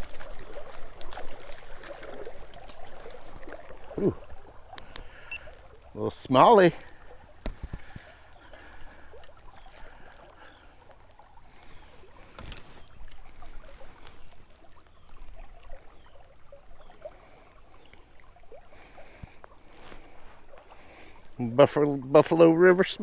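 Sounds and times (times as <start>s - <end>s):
water lapping around a boat: 0.0s - 23.0s.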